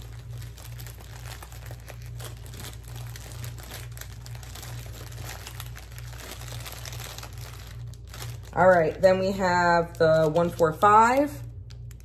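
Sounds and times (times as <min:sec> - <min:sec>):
low steady hum: 0:00.0 - 0:12.0
plastic bags crinkling: 0:00.0 - 0:12.0.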